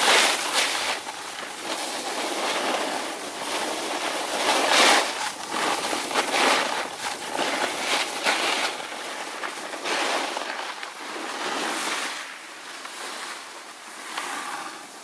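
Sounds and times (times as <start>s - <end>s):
snowboard scraping over snow: 0.0s - 15.0s.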